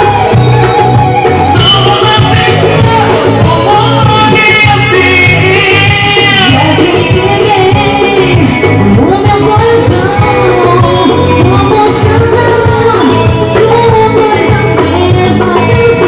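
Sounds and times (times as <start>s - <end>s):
live band playing dance music: 0.0s - 16.0s
person singing: 0.0s - 16.0s.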